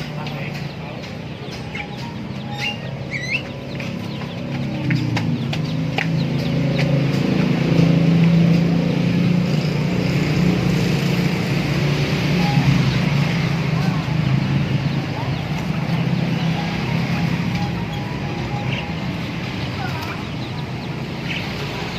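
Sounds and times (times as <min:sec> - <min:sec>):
high bird chirps: 0:00.0 - 0:08.0, 0:09.5 - 0:21.9.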